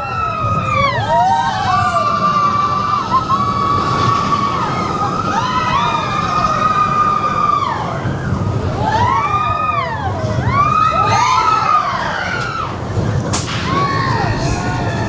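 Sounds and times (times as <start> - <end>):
low rumble of roller coaster: 0.0 - 15.0
roller coaster wheels squealing: 0.0 - 15.0.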